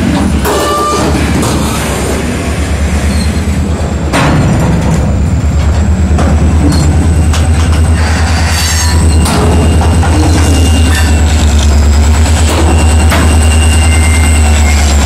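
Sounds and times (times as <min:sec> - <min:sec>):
diesel locomotives rumbling: 0:00.0 - 0:15.0
rail cars rolling on rails: 0:00.0 - 0:15.0.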